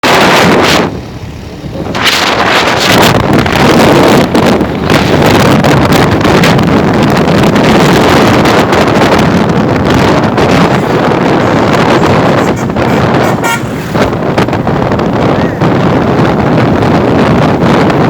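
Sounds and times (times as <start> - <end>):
motorcycle running at speed: 0.0 - 18.0
wind buffeting microphone: 0.0 - 18.0.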